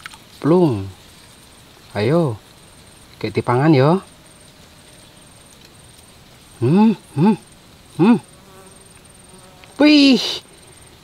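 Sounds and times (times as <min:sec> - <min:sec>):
high pulsing insect trill: 0:00.0 - 0:11.0
flying insect buzzing past: 0:01.0 - 0:11.0.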